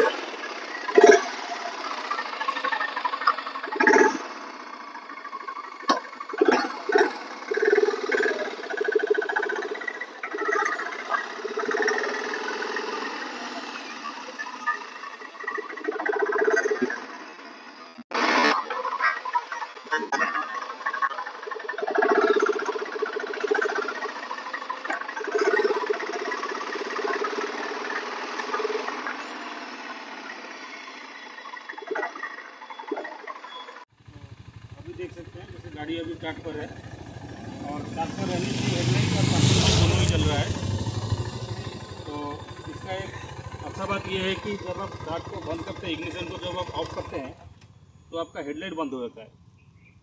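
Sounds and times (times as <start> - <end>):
motorcycle engine revving: 0.0 - 18.7, 19.4 - 50.0.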